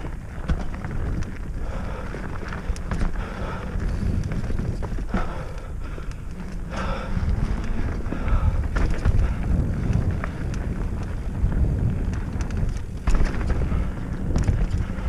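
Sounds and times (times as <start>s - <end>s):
bike rattling and knocking: 0.0s - 15.0s
tyres rolling over dirt: 0.0s - 15.0s
wind buffeting microphone: 0.0s - 15.0s.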